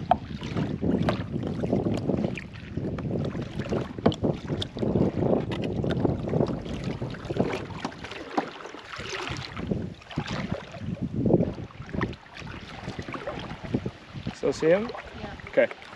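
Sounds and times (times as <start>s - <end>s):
wind buffeting microphone: 0.0s - 8.3s, 8.9s - 15.7s
water sloshing and splashing: 0.0s - 15.9s.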